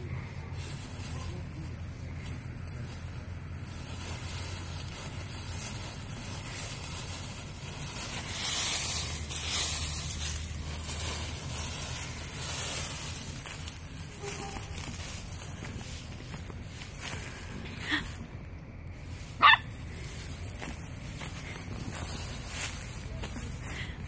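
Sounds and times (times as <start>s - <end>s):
dry leaves crackling and rustling: 0.0s - 24.0s.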